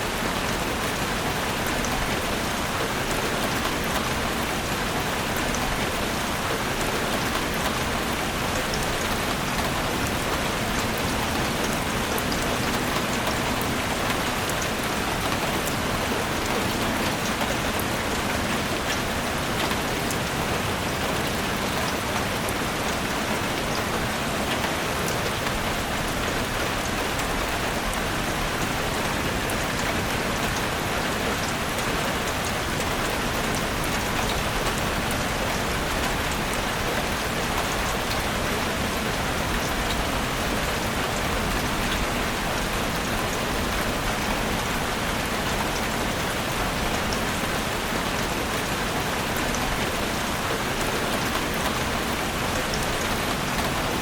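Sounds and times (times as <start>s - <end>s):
steady rain on leaves: 0.0s - 54.0s.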